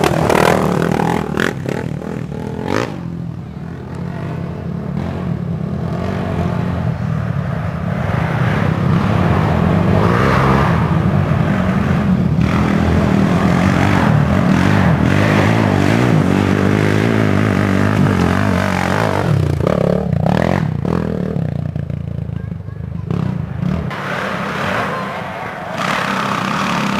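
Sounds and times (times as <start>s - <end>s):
quad engines revving: 0.0s - 26.9s.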